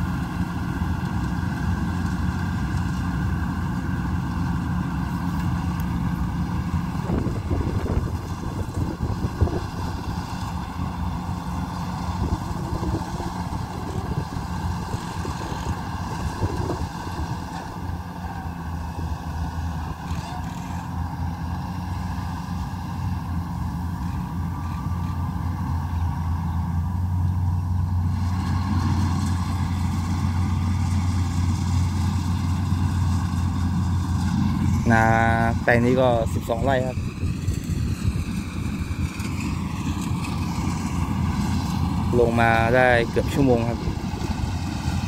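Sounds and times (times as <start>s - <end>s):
combine harvester diesel engine: 0.0s - 45.0s.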